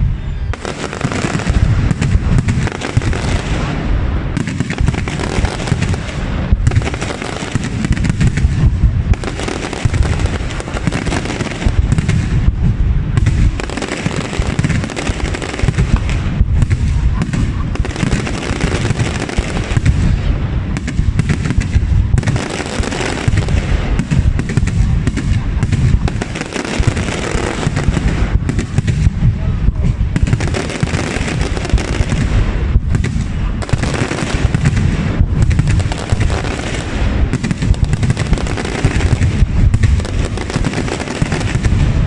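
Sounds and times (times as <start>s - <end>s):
deep fireworks booms: 0.0s - 42.0s
fireworks bangs and crackles: 0.0s - 42.0s.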